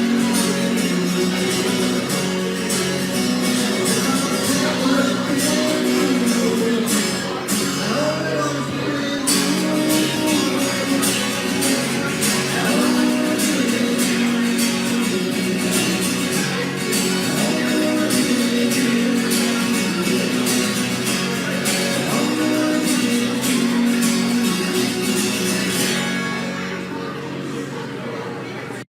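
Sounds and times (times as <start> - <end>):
person singing: 0.0 - 27.1
strummed acoustic guitar: 0.0 - 28.8.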